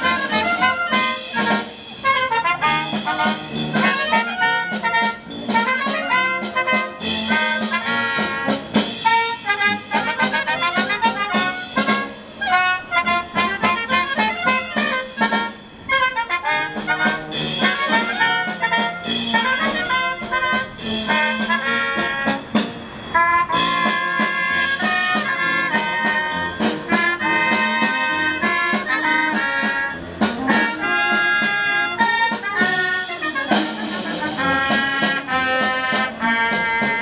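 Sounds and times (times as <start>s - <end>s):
brass melody: 0.0s - 37.0s
steady drum beat: 0.0s - 37.0s.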